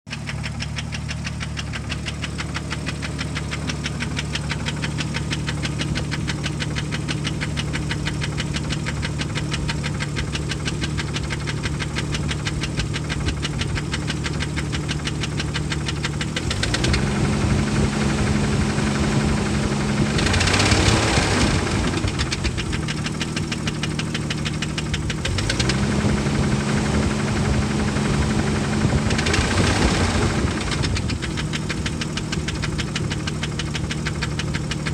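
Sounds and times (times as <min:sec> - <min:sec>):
engine knocking at idle: 0:00.1 - 0:34.9
engine revving: 0:00.2 - 0:34.9.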